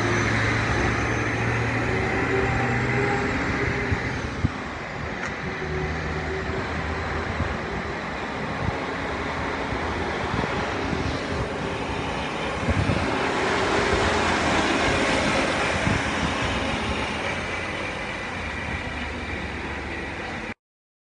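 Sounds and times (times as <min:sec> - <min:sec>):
road noise: 0:00.0 - 0:20.6
truck diesel engine running: 0:00.0 - 0:20.6.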